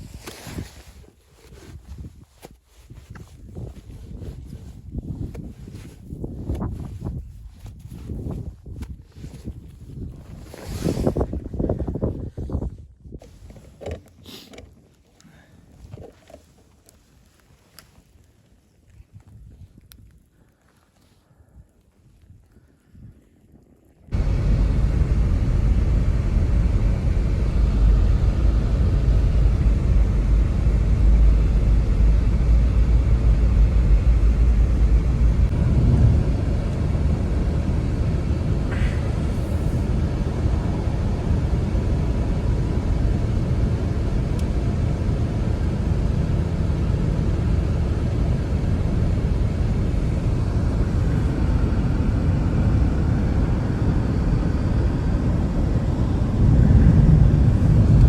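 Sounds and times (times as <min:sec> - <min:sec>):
blizzard wind: 0:00.0 - 0:58.0
wind rumble on microphone: 0:00.0 - 0:58.0.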